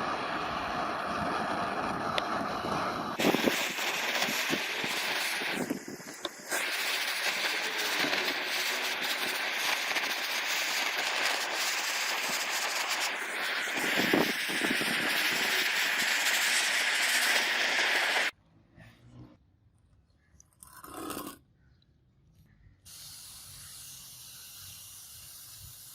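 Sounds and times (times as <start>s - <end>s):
abrasive grinding hiss: 0.0s - 18.3s, 22.9s - 25.9s.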